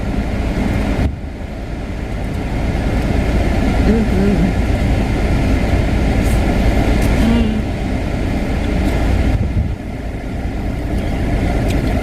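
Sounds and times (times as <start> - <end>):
air conditioning hiss: 0.0 - 12.0
car engine idling: 0.0 - 12.0.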